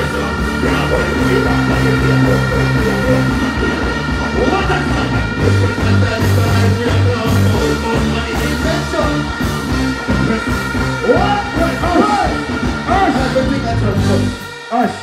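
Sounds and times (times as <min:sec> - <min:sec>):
chanted vocal phrases: 0:00.0 - 0:15.0
heavy pulsing bass line: 0:00.0 - 0:15.0
live band through outdoor pa: 0:00.0 - 0:15.0.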